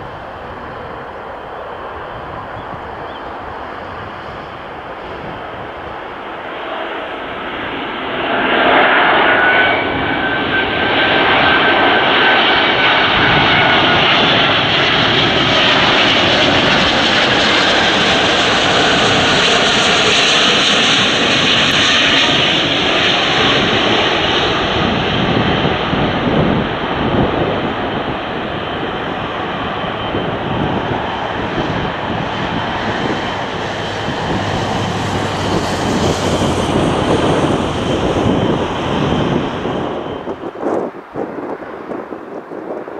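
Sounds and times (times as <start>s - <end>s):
high engine whine: 0.0s - 42.9s
jet airliner engine noise: 0.0s - 42.9s.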